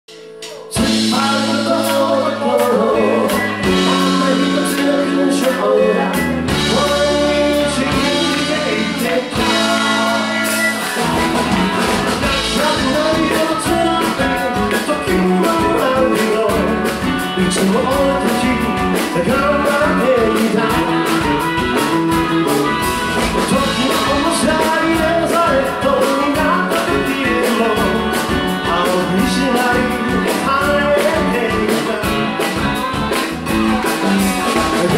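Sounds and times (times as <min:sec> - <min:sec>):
person singing: 0:00.1 - 0:11.5, 0:12.2 - 0:32.9, 0:34.4 - 0:34.9
drums beating: 0:00.1 - 0:34.9
live rock band playing: 0:00.1 - 0:34.9.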